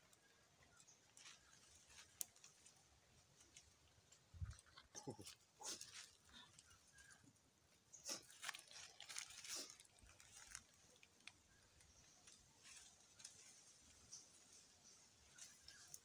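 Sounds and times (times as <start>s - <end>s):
dry leaves crackling underfoot: 0.2s - 7.2s, 8.0s - 16.0s.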